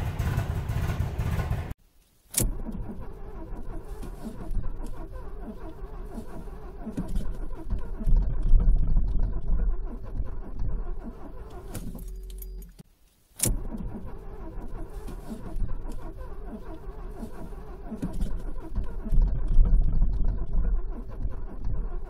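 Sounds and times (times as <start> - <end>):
car engine idling: 0.0 - 1.8, 2.4 - 22.0.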